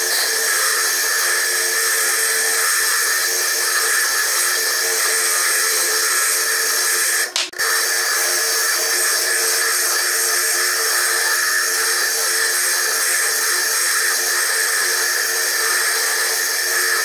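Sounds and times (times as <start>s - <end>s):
lathe high whine: 0.0s - 17.0s.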